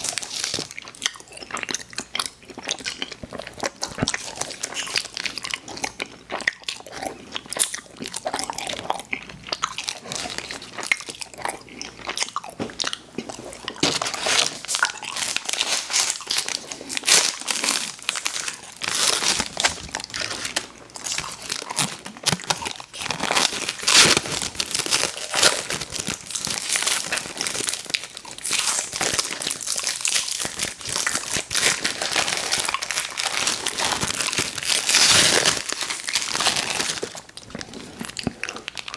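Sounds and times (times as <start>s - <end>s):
chewing candy with crackles: 0.0s - 38.9s.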